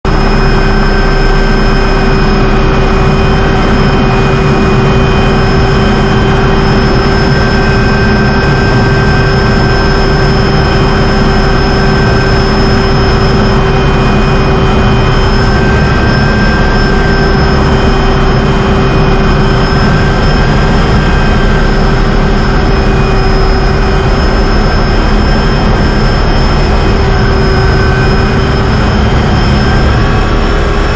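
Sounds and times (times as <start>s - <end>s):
helicopter engine and rotor: 0.0s - 30.9s
high turbine whine: 0.0s - 30.9s.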